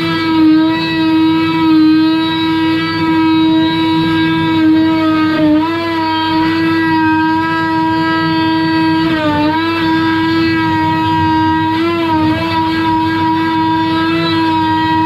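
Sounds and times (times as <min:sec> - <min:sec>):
oscillating multi-tool buzzing: 0:00.0 - 0:15.0.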